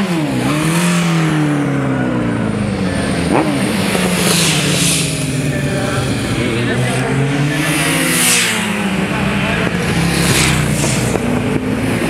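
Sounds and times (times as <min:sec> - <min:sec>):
motorcycle engines running: 0:00.0 - 0:12.0
motorcycle passing close: 0:00.0 - 0:12.0
motorcycle revving: 0:00.0 - 0:12.0.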